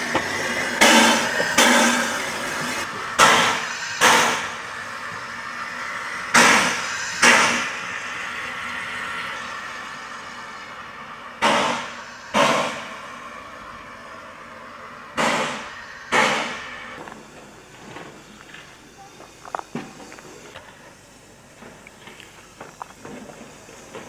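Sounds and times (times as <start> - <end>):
steam locomotive chuffs: 0.0 - 24.0.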